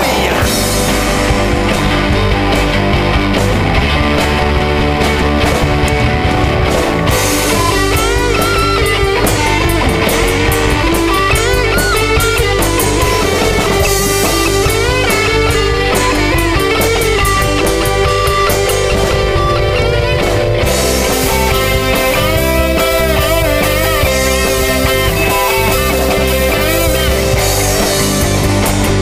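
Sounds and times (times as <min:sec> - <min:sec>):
punk rock band playing: 0:00.0 - 0:29.0.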